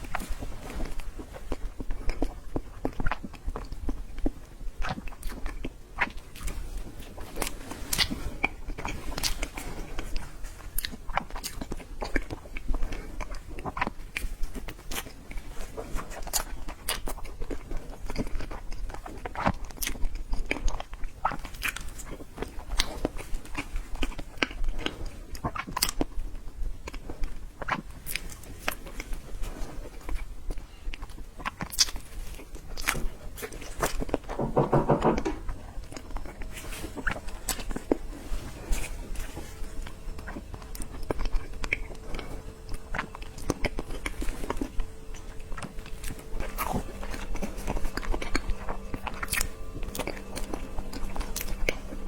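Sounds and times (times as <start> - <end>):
person chewing: 0.0 - 52.0.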